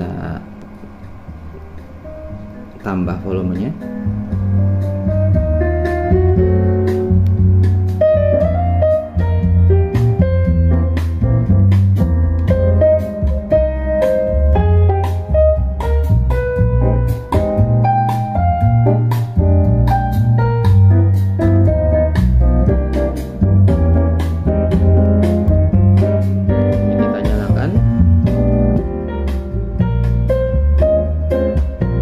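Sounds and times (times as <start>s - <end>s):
instrumental jazz over speakers: 0.0s - 32.0s.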